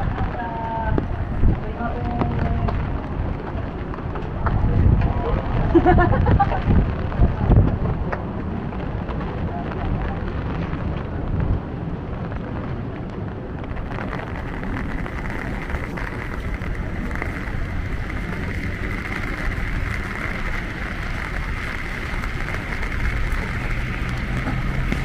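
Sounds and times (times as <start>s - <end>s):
low rumble: 0.0s - 25.0s
wet traffic: 0.0s - 25.0s
rain hiss: 0.3s - 25.0s.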